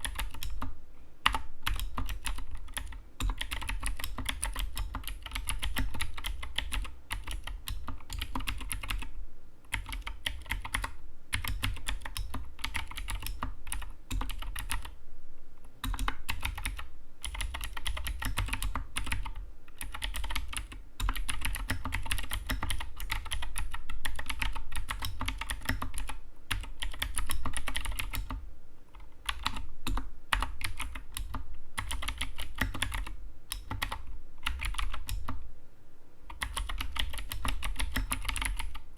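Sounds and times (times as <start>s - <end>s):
fast mechanical keyboard typing: 0.0s - 9.1s, 9.7s - 15.0s, 15.8s - 28.4s, 29.0s - 35.4s, 36.3s - 38.8s.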